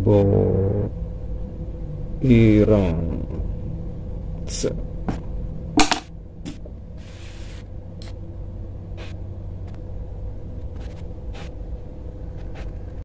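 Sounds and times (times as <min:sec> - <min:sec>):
faint steady hum: 0:00.0 - 0:13.0
low background rumble: 0:00.0 - 0:13.0.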